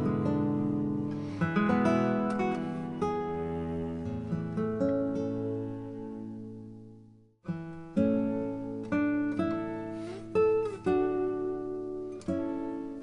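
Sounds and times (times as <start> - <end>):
acoustic guitar plucked and strummed: 0.0 - 13.0.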